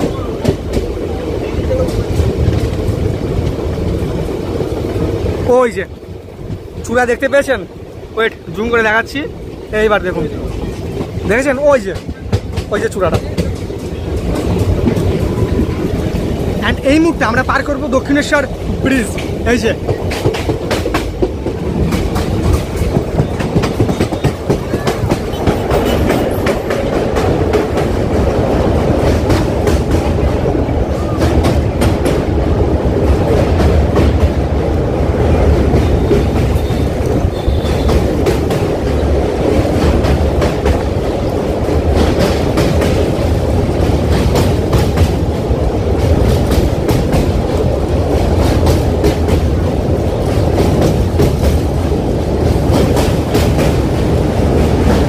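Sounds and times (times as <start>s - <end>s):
train wheels rumbling on rails: 0.0s - 55.0s
wheels clicking over rail joints: 0.0s - 55.0s.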